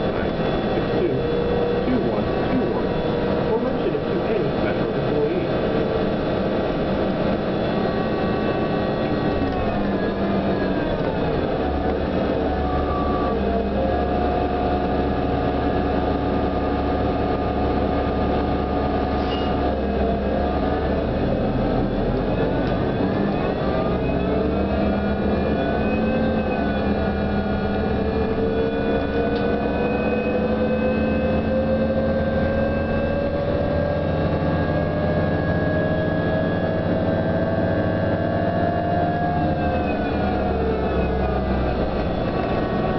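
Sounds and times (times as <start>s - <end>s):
bus interior low drone: 0.0s - 42.9s
bus motor whining tones: 0.0s - 42.9s.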